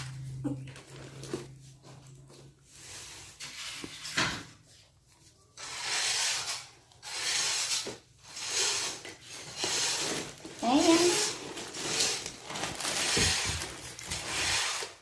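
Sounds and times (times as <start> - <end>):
rubbing and scraping: 0.0 - 15.0.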